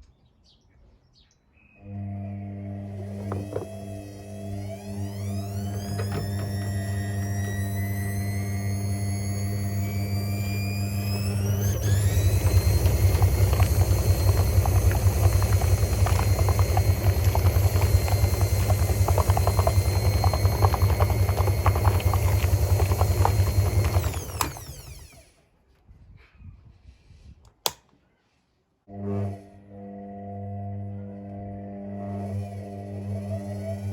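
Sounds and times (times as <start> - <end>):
washing machine running: 1.8 - 25.3, 28.9 - 33.9.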